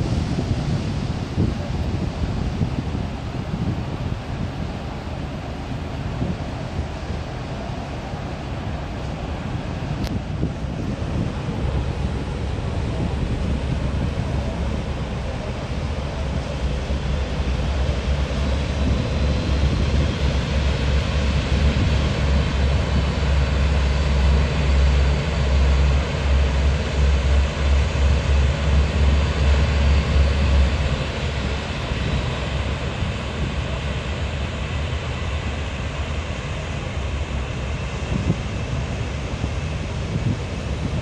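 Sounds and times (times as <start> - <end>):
ferry engines rumbling: 0.0 - 41.0.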